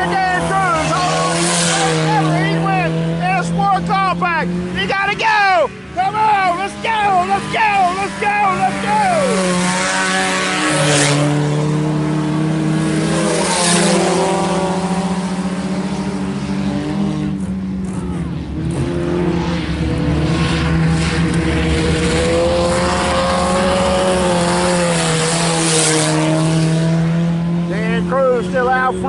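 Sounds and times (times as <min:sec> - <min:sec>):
race car engines droning: 0:00.0 - 0:29.0
race cars passing close: 0:00.0 - 0:29.0.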